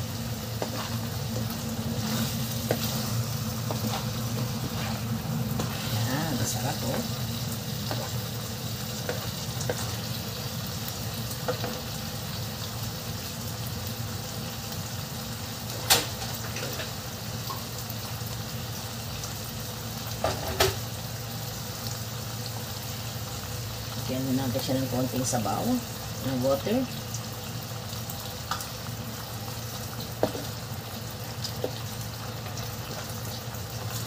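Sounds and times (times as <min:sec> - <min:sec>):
sauce sizzling in a wok: 0:00.0 - 0:34.0.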